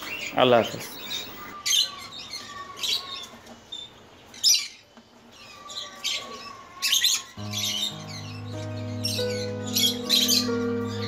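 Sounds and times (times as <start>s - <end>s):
parrots screeching: 0.0s - 11.0s.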